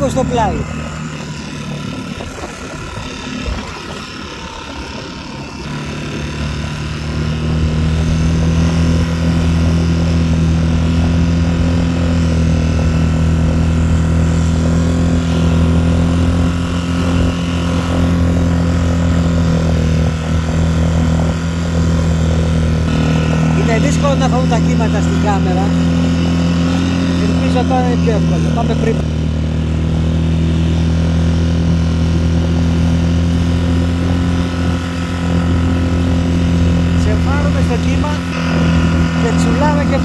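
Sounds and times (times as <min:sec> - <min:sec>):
outboard motor running: 0:00.0 - 0:40.0.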